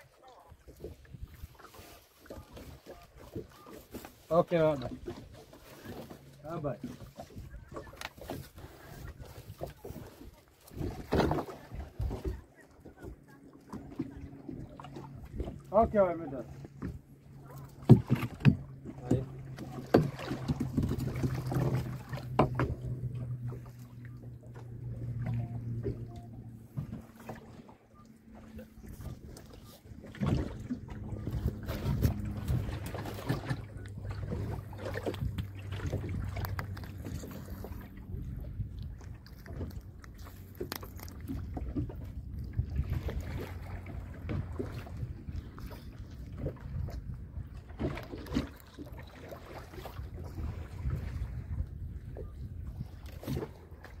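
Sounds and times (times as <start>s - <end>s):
wind rumble on microphone: 0.0s - 3.7s, 4.8s - 15.7s, 16.4s - 54.0s
outboard motor idling: 0.0s - 54.0s
water around boat: 0.0s - 54.0s
knocks and thumps on hull: 0.6s - 54.0s.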